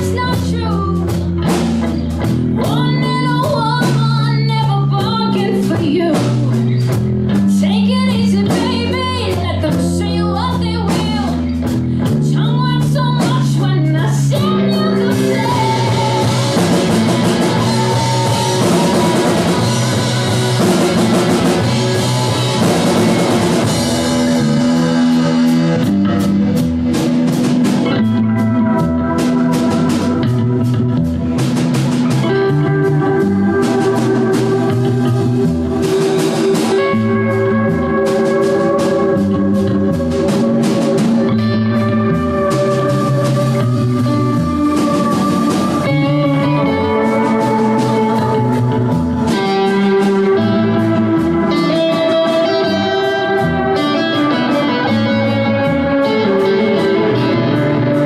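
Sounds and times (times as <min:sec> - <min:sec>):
bass line: 0:00.0 - 0:58.0
drum kit with cymbals: 0:00.0 - 0:58.0
electric guitar lead: 0:00.0 - 0:58.0.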